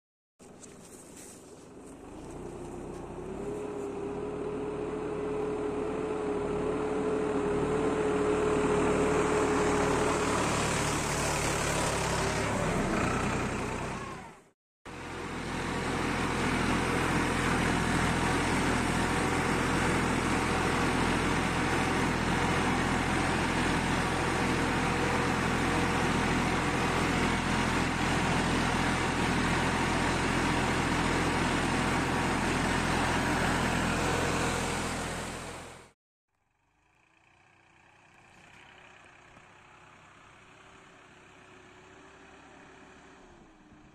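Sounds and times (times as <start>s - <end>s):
tractor diesel engine under load: 0.4s - 36.0s, 36.8s - 43.9s.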